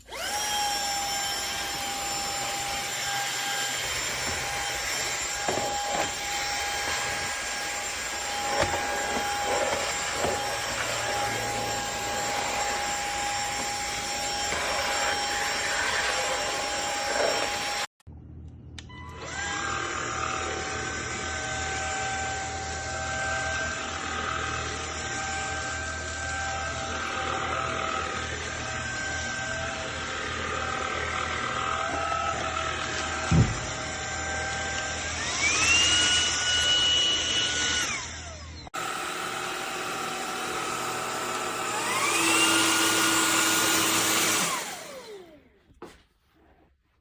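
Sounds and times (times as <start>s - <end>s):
vacuum cleaner motor whine: 0.0s - 17.9s, 18.9s - 45.6s.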